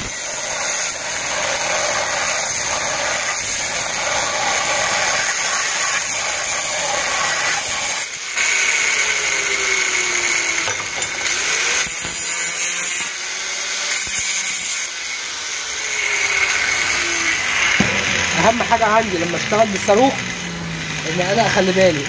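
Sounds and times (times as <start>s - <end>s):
angle grinder cutting steel: 0.0s - 22.0s.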